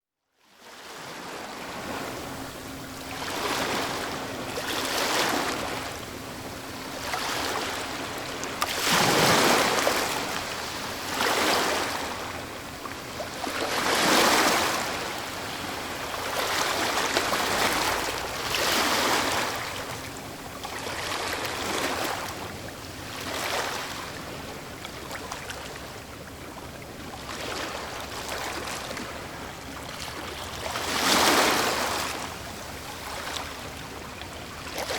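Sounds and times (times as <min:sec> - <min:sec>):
ocean waves breaking on shore: 0:00.6 - 0:34.9.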